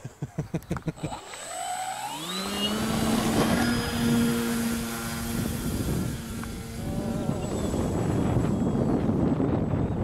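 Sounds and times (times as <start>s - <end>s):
model plane motor whining: 0.9s - 10.0s.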